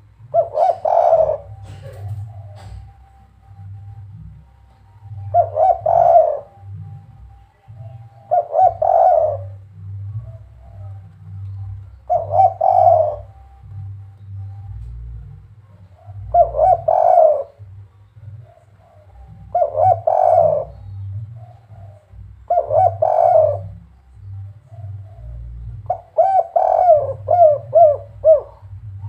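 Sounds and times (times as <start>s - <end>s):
dove cooing: 0.0s - 29.0s
low background hum: 0.0s - 29.0s.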